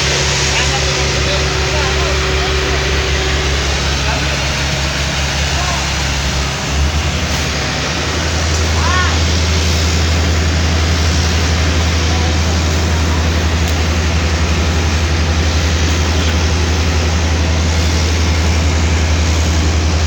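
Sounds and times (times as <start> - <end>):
diesel engines of machinery droning: 0.0 - 20.0.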